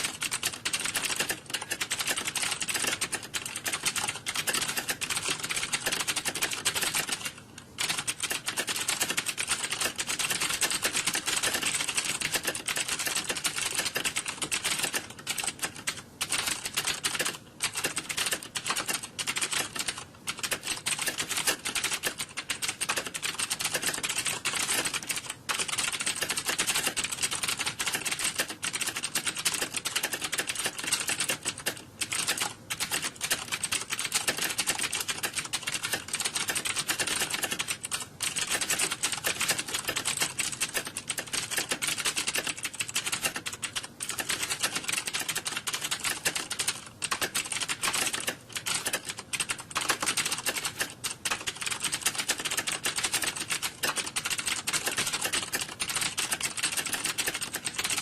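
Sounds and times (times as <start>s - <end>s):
fast keyboard typing: 0.0s - 58.0s.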